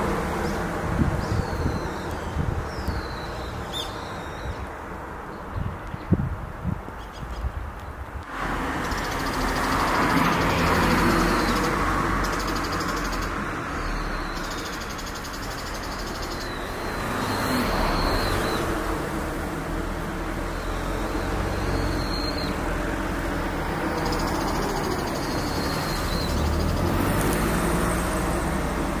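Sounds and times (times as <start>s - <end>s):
vehicles passing: 0.0s - 29.0s.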